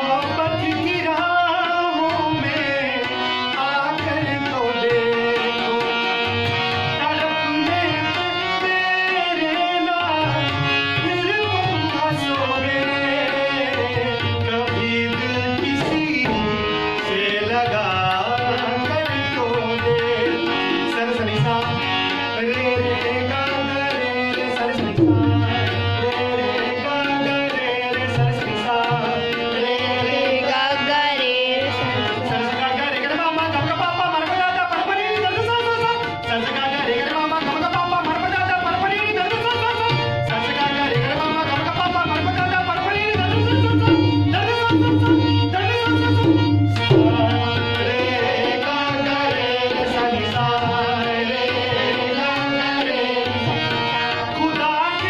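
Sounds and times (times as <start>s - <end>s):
harmonium melody: 0.0s - 55.0s
man singing: 0.0s - 55.0s
tabla rhythm: 0.0s - 55.0s.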